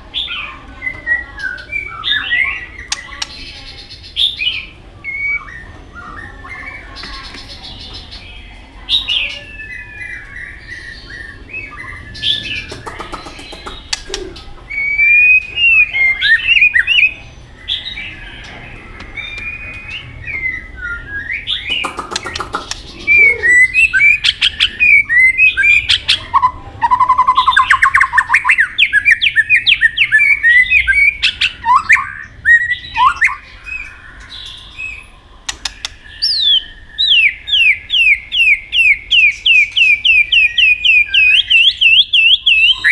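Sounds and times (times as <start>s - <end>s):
bird singing whistled phrases: 0.2s - 3.0s, 4.2s - 7.0s, 8.9s - 42.9s.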